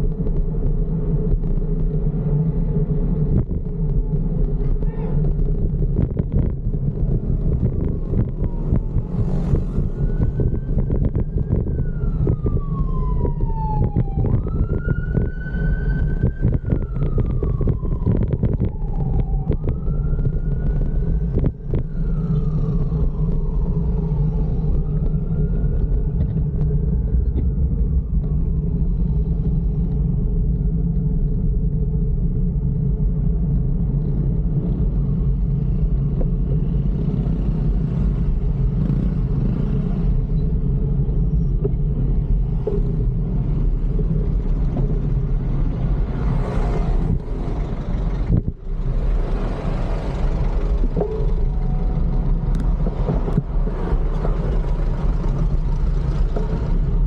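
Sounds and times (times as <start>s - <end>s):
road traffic rumble: 0.0s - 57.0s
emergency vehicle siren wailing: 3.4s - 57.0s.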